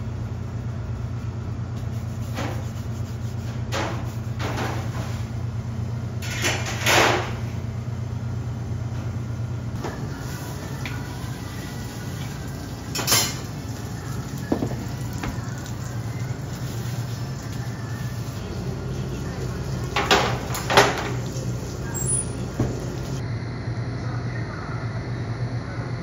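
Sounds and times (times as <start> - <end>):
kitchen machinery humming: 0.0 - 26.0.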